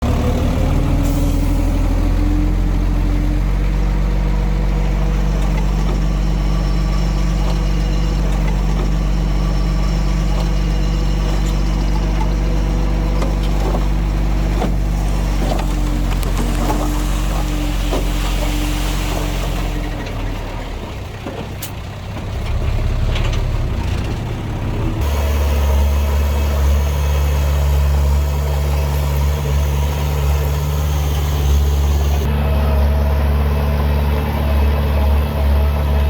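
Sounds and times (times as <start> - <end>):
heavy diesel engine droning: 0.0 - 36.0.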